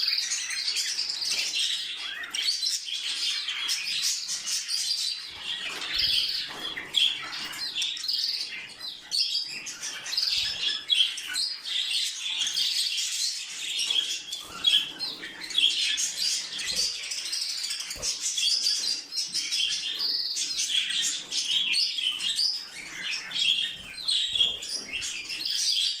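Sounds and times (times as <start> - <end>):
parrots chirping and chattering: 0.0 - 26.0.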